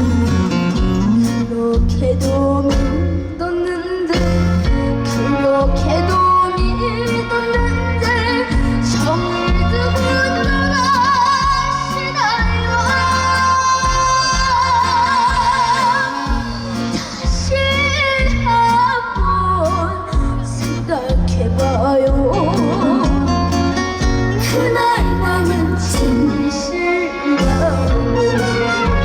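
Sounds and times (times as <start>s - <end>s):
high voice singing with vibrato: 0.0s - 23.8s, 24.4s - 29.0s
backing track with pulsing bass: 4.2s - 29.0s.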